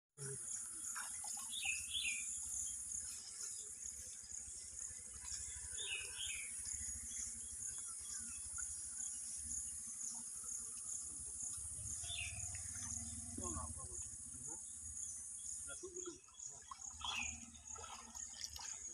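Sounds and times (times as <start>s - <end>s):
bird chirping: 0.2s - 17.9s
high-pitched insect drone: 0.2s - 18.3s.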